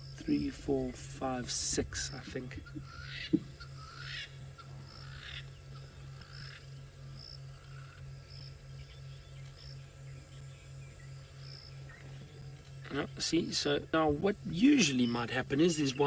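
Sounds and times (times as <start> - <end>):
pulsing insect trill: 0.0 - 16.0.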